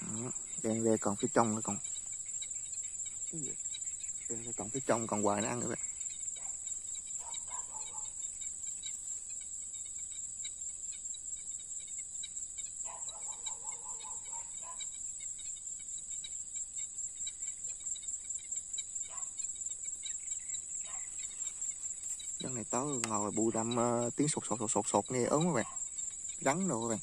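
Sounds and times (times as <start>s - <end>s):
crickets trilling: 0.0s - 27.0s
rapid animal calls: 0.0s - 27.0s.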